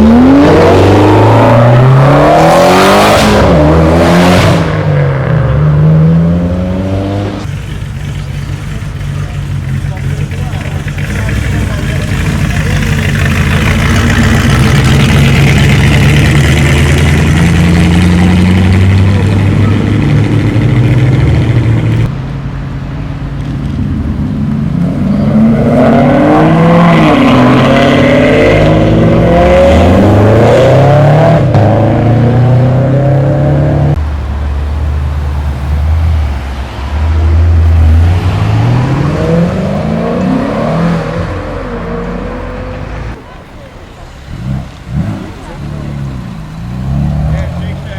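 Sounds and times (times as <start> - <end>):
car engines accelerating: 0.0 - 47.9.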